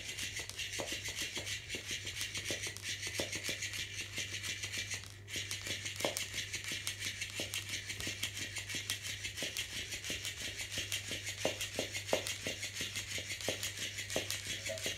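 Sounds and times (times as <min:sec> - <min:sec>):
toy motor rattling buzz: 0:00.0 - 0:14.9.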